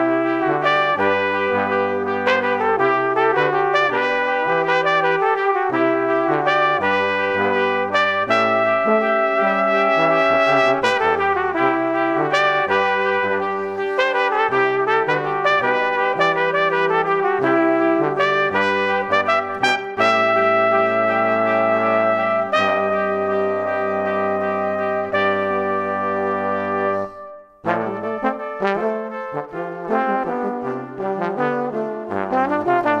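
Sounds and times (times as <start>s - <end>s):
brass melody: 0.0s - 33.0s.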